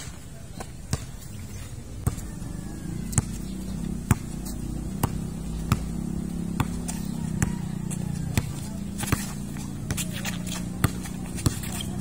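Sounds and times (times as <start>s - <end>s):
basketball bouncing on concrete: 0.0s - 1.3s, 2.0s - 12.0s
vehicle engine running: 2.0s - 12.0s.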